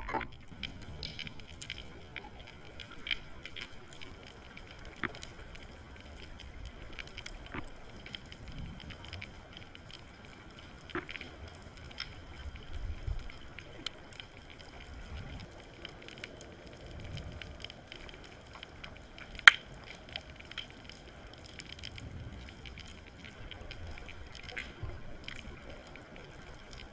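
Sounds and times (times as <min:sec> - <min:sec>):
faint underwater clicks and crackles: 0:00.0 - 0:26.9
low rumble of moving water: 0:00.0 - 0:26.9.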